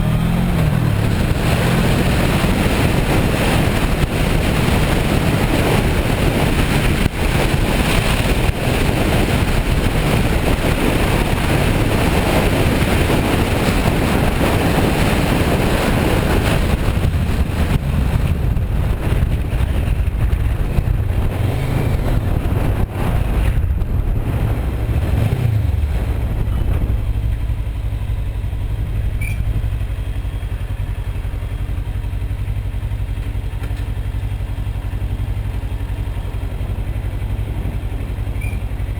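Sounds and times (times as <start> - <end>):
wind noise on microphone: 0.0 - 32.7, 33.9 - 38.9
motorcycle engine running: 0.0 - 38.9.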